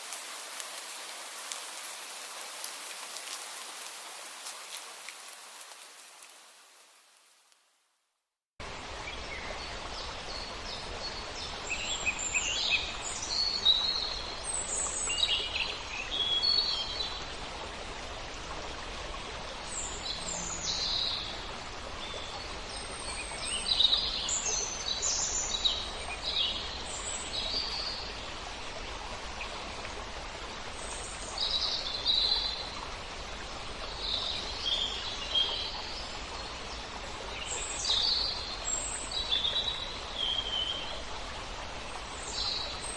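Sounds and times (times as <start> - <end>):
wind rushing through leaves: 0.0 - 7.8, 8.6 - 42.9.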